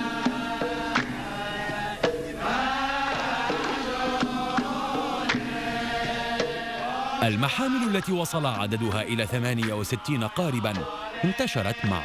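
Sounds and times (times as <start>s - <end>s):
drum beats: 0.0s - 12.0s
voices chanting a wavering melody: 0.0s - 12.0s.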